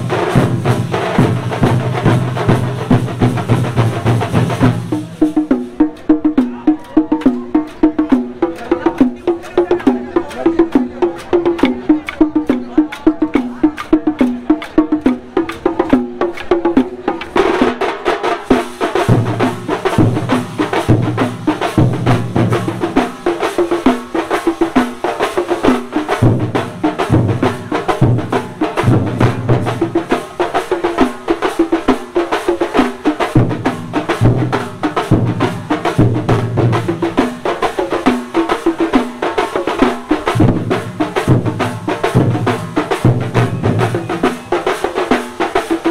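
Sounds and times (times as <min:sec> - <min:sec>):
drummers playing fast rhythm: 0:00.0 - 0:45.9.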